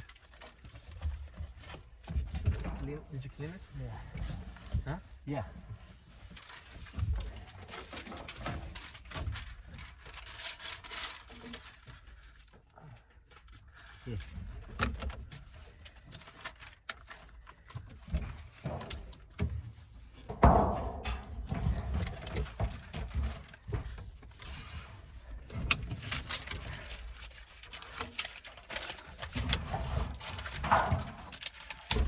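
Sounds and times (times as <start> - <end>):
parts and tools being handled: 0.0 - 32.0.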